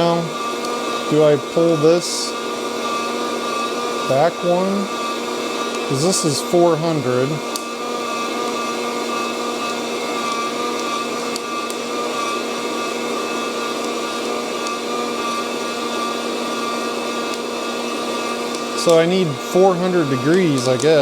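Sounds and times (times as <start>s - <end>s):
coffee roaster fan whirring: 0.0s - 21.0s.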